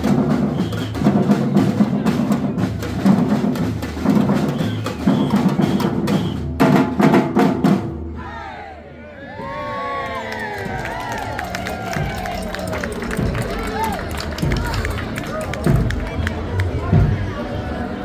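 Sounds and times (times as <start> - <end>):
marching drum band: 0.0 - 8.2, 10.6 - 17.8.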